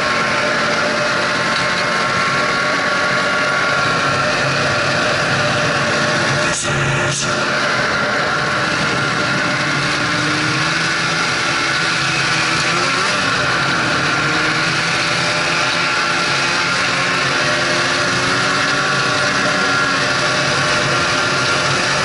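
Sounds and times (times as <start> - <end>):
snowmobile engine droning: 0.0 - 22.0.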